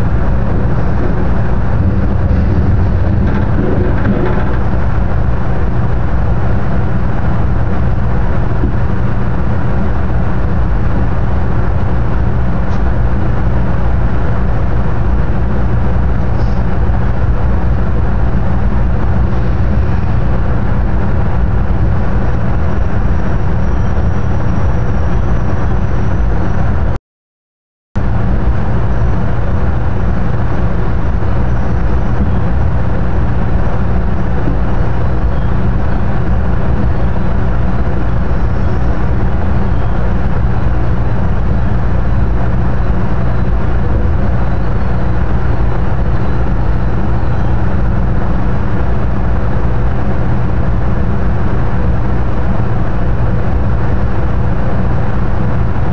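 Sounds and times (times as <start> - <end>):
train rumbling across bridge: 0.0 - 27.0, 28.0 - 55.9.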